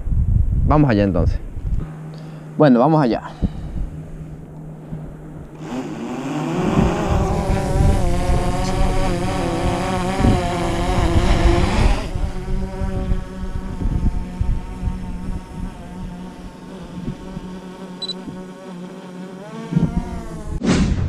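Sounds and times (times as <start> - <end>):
drone propellers buzzing: 3.3 - 20.6.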